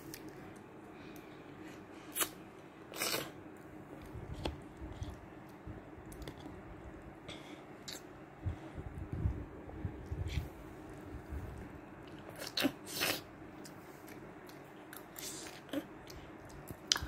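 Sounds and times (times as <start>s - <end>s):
child chewing: 0.0s - 8.2s, 9.0s - 17.0s.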